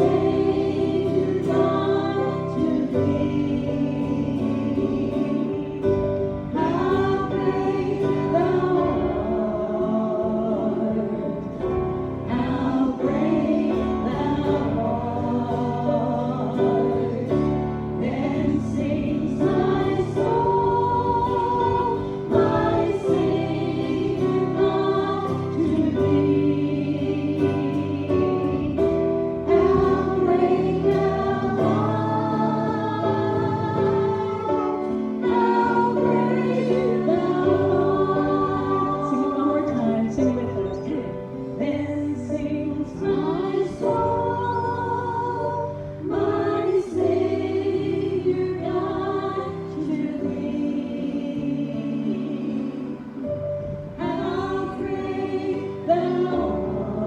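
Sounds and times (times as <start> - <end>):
group singing gospel song: 0.0 - 57.0.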